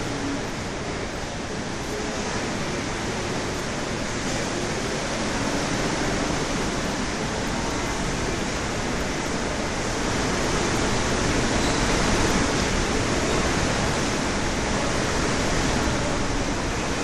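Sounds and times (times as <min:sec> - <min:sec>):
heavy rain: 0:00.0 - 0:17.0
storm wind: 0:00.0 - 0:17.0.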